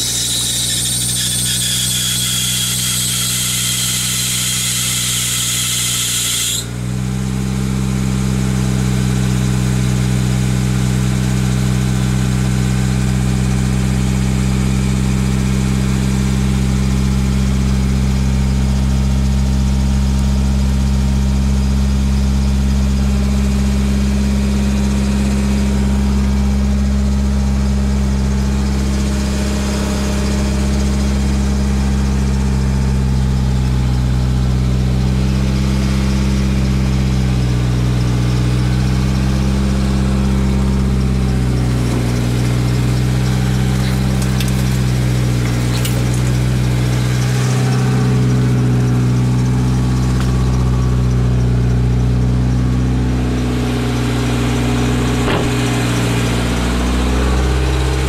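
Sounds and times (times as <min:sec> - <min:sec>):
car engine idling: 0:06.7 - 0:58.0.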